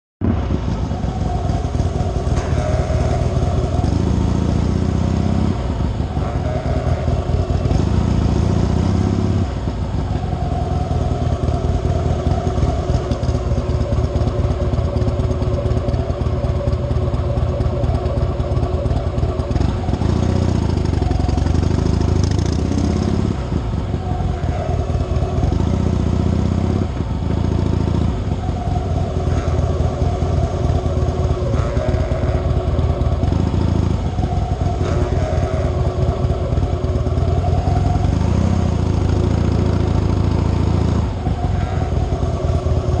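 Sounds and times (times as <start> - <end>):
motorcycle idling: 0.2 - 43.0
odd noise from motorcycle: 0.2 - 43.0.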